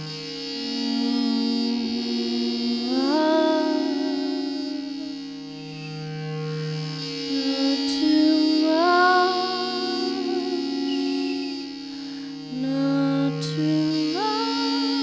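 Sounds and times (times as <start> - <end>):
higher wavering tone: 0.0 - 15.0
loudspeaker feedback drones: 0.0 - 15.0.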